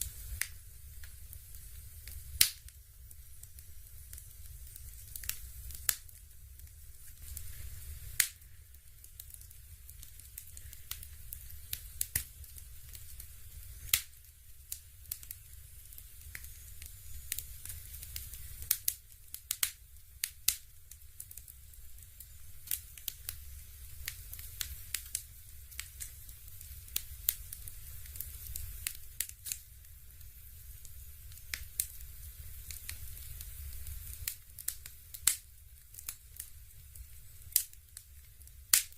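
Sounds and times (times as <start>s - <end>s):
fireplace crackling and popping: 0.0s - 38.9s.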